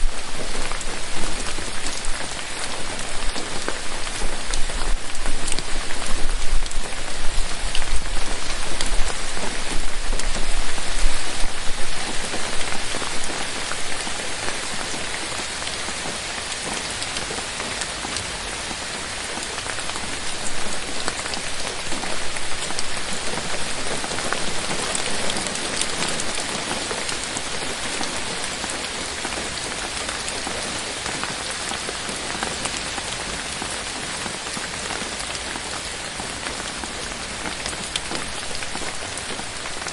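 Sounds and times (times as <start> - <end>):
rain patter on leaves: 0.0 - 39.9.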